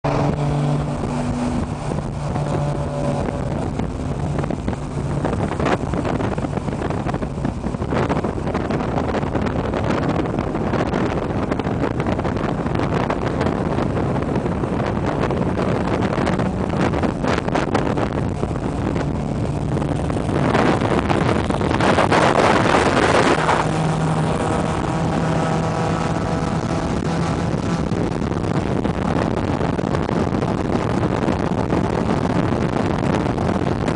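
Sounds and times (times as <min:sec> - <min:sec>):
car engine drone: 0:00.0 - 0:33.9
road and tyre noise: 0:00.0 - 0:33.9
wind rushing over microphone: 0:00.0 - 0:33.9.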